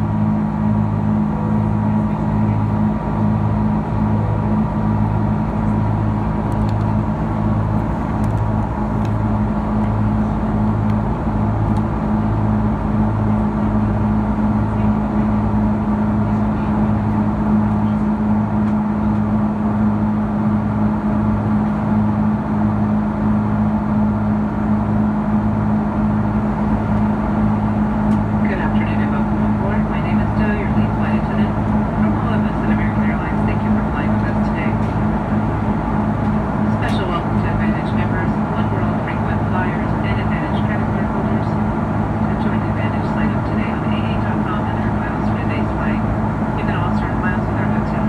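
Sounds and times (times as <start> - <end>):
airliner cabin engine drone: 0.0 - 48.0
wavering low hum: 0.0 - 48.0.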